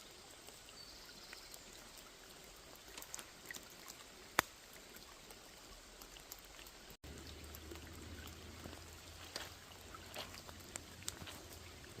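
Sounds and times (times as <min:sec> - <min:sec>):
light rain on a pond: 0:00.0 - 0:12.0
raindrops ticking: 0:00.0 - 0:12.0.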